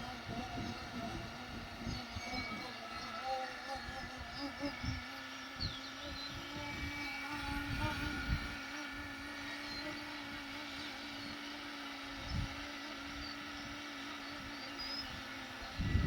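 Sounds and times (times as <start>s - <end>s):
rc helicopter rotor whine: 0.0s - 16.0s
wind buffeting microphone: 0.0s - 16.0s.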